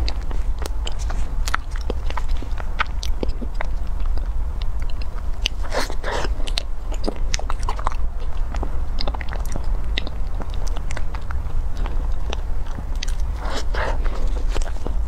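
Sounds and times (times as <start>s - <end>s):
chewing mouth clicks and smacks: 0.0s - 15.0s.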